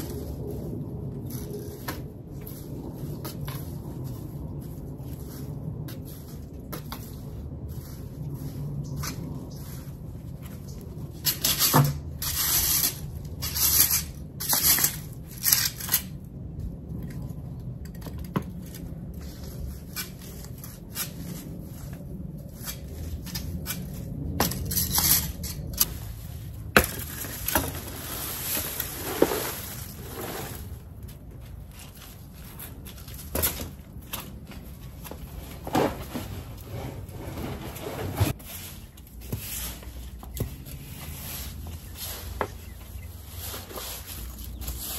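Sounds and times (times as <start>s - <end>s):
rake scraping through dry leaves: 0.0s - 16.2s, 18.6s - 44.9s.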